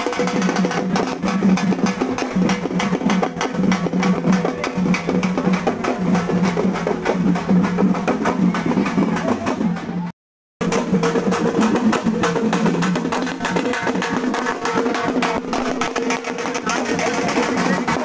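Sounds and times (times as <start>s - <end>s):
music with fast dense drumming: 0.0s - 18.0s.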